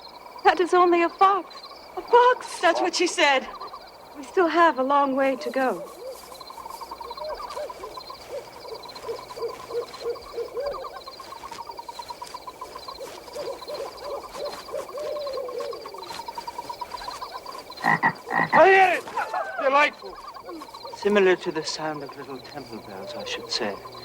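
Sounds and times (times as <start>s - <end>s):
owl hooting: 0.5s - 24.0s.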